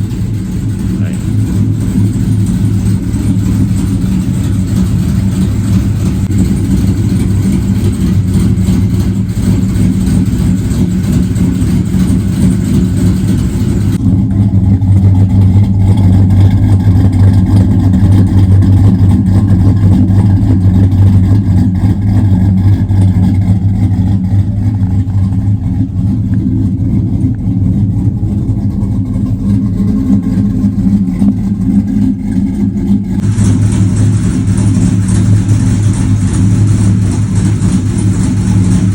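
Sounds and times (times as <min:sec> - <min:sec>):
vehicle engine low drone: 0:00.0 - 0:38.9.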